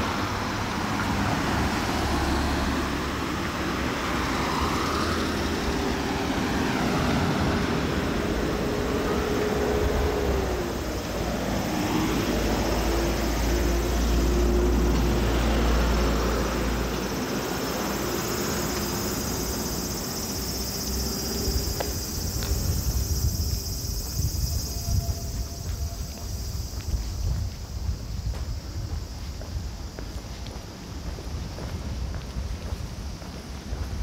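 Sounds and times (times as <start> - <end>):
vehicle engine hum passing: 0.0 - 34.0.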